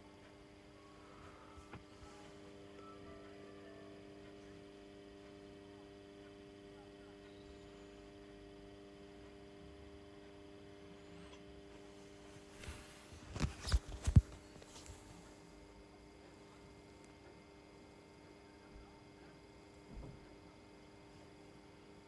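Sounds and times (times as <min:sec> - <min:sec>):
lamp ballast humming: 0:00.0 - 0:18.6.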